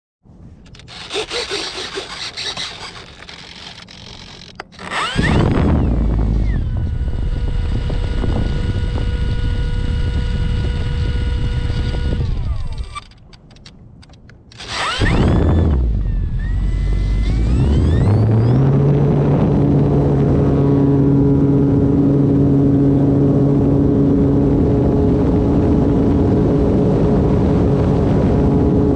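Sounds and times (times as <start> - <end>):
electric motor and propeller whine: 0.4 - 28.9.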